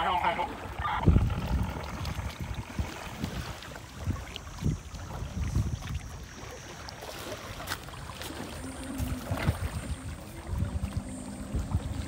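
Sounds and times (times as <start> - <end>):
paddle splashing water: 0.0 - 12.0
wind rumbling on microphone: 0.0 - 12.0.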